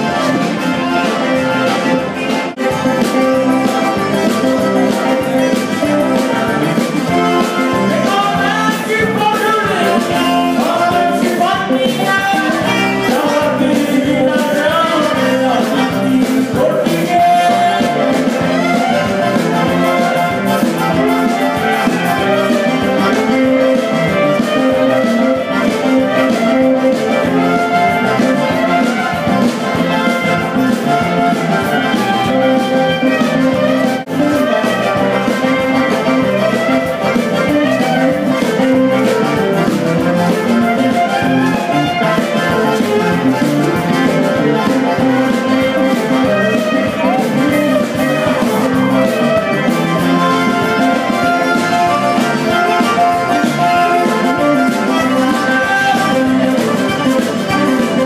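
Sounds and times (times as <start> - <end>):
live band playing dance music: 0.0 - 58.0.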